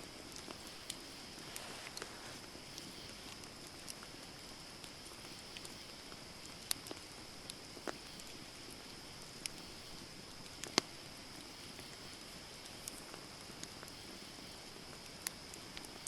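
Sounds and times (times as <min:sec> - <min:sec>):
steady high hiss: 0:00.0 - 0:16.0
campfire crackling and popping: 0:00.1 - 0:16.0.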